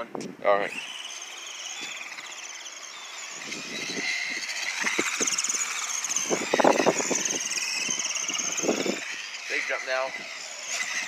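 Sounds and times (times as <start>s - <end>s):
rc truck motor whine: 0.5s - 11.0s.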